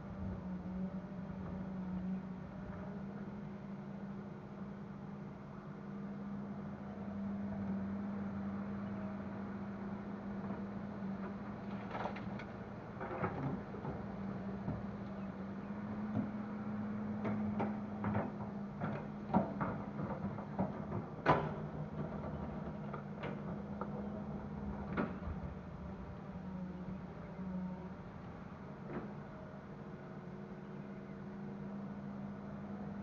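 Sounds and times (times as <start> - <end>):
excavator diesel engine humming: 0.0 - 33.0.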